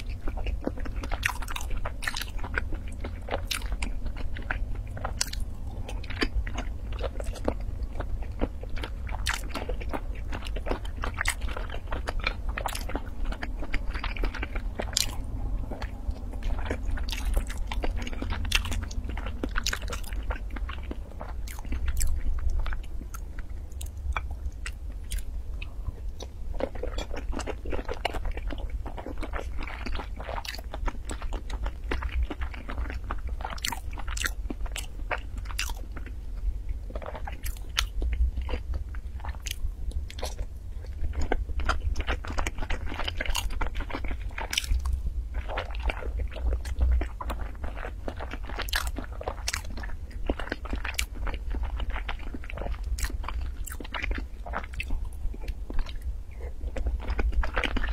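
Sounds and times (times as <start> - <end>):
chewing and biting: 0.0 - 57.9.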